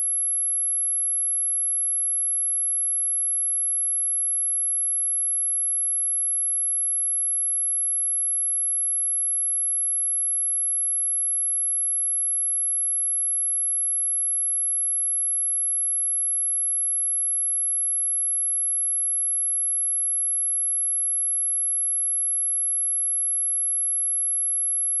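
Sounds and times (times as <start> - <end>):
high-pitched sine-wave test tone: 0.0 - 25.0.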